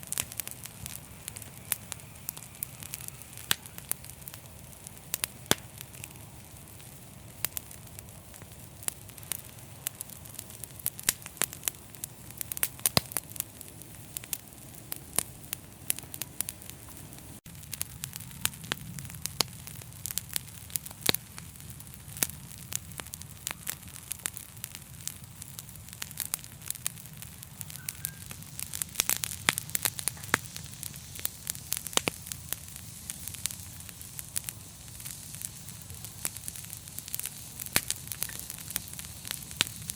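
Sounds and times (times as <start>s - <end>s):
fire popping and snapping: 0.0s - 39.9s
rush of flames: 0.0s - 39.9s.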